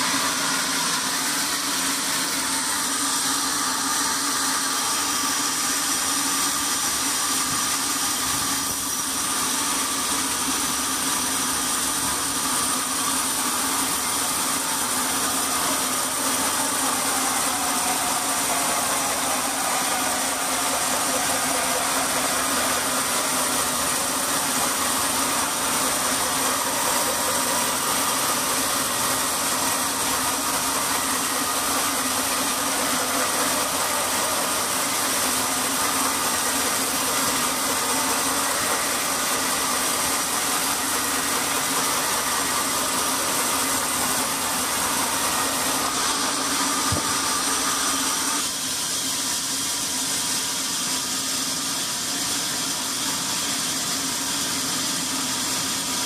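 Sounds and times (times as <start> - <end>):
band saw cutting log: 0.0 - 56.0
constant machine hum: 0.0 - 56.0.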